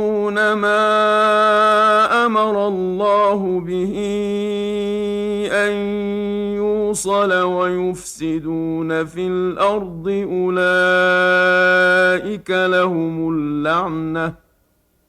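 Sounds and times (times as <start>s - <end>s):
man reciting melodically: 0.0s - 14.5s.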